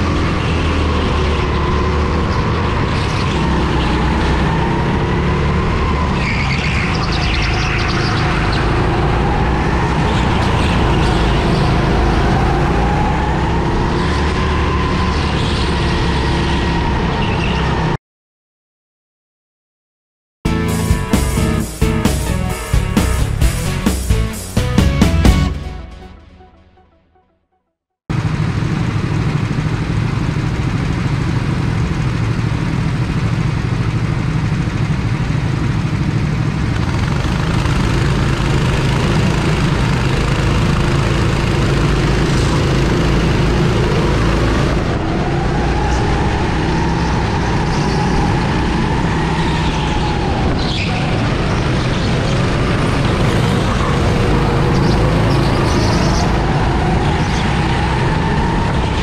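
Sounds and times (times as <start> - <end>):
go-kart engine running hard: 0.0 - 17.9, 28.1 - 59.0.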